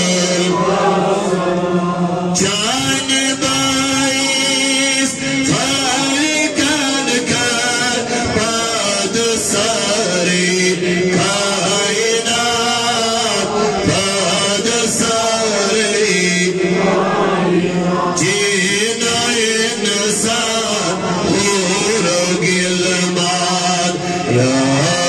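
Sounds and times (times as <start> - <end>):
man chanting devotional poem: 0.0 - 16.9, 17.7 - 25.0.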